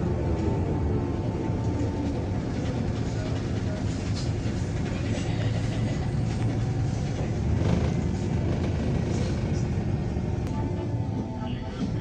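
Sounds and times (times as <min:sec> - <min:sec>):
bus engine drone: 0:00.0 - 0:12.0
road and body rumble: 0:00.0 - 0:12.0.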